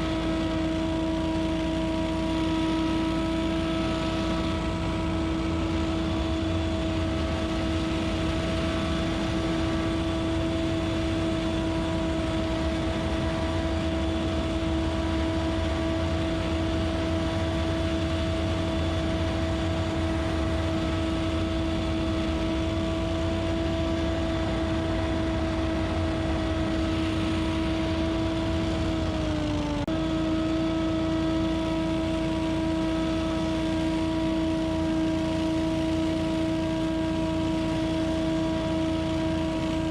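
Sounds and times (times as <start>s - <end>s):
leaf blower engine and fan: 0.0s - 39.9s.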